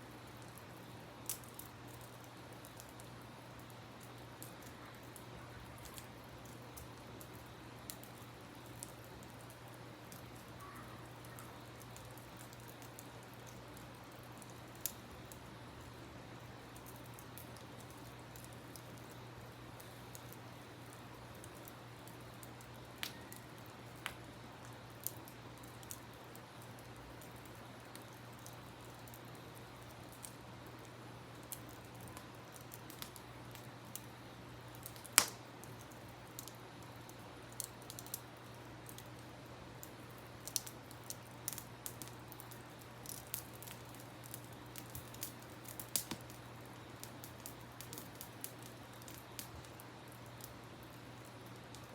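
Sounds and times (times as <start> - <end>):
campfire wood crackling: 0.0 - 51.9
sharp pops of fire: 0.4 - 16.0, 16.6 - 51.9.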